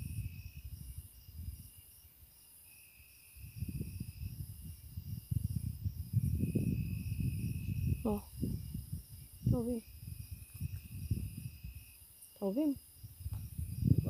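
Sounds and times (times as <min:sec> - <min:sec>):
night insects chirping: 0:00.0 - 0:14.0.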